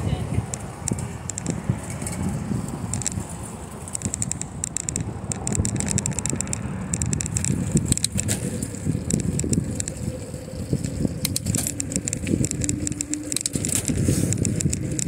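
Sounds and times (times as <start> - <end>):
bicycle rolling rumble: 0.0 - 15.0
rattling clicks: 0.4 - 15.0.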